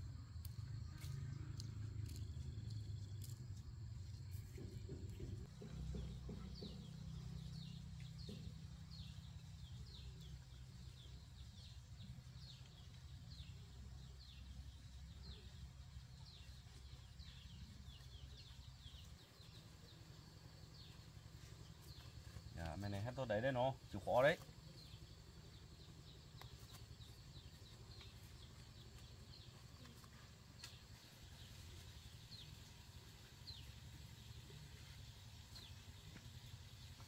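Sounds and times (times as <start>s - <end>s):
faint birdsong chirps: 0.0s - 37.0s.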